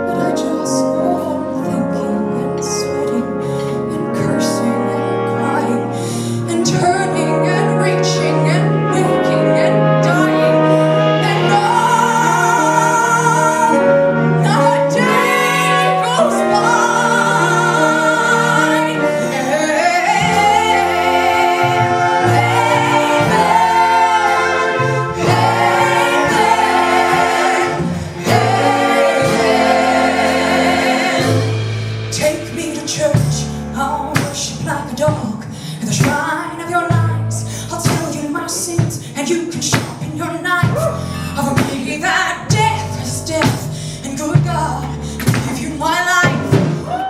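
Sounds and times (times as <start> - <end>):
instrumental accompaniment with bass: 0.0 - 47.0
woman singing with vibrato: 0.0 - 47.0.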